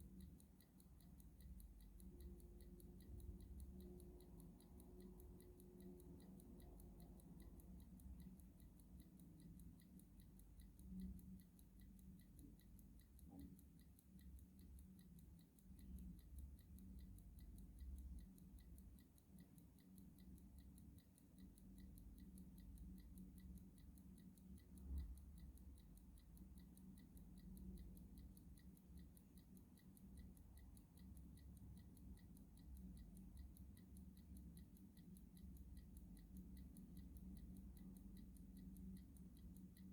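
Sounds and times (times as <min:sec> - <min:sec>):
clock ticking: 0:00.0 - 0:39.9
low background hum: 0:00.0 - 0:39.9.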